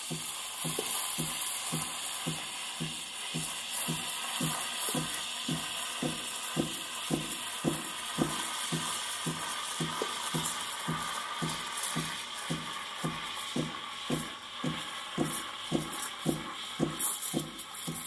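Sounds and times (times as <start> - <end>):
steam wand hissing: 0.0 - 18.0.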